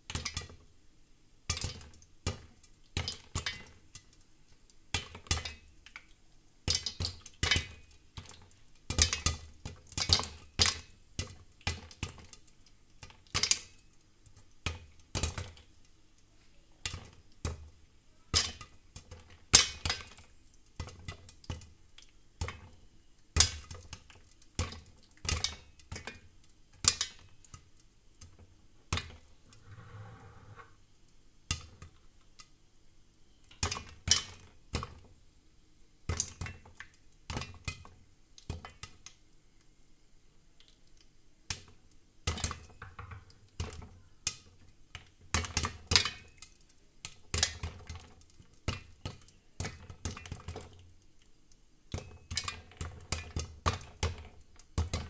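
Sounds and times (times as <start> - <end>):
popcorn popping in a pot: 0.0 - 29.4, 30.8 - 35.3, 36.0 - 55.0.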